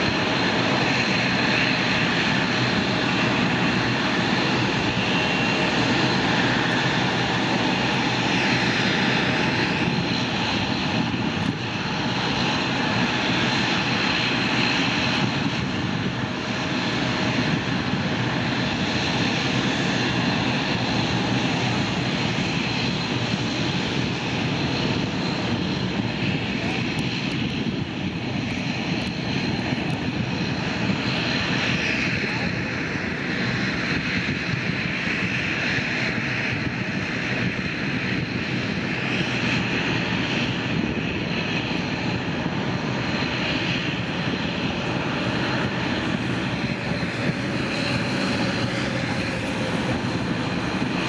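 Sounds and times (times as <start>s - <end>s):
high engine whine: 0.0s - 51.0s
jet engines roaring: 0.0s - 51.0s.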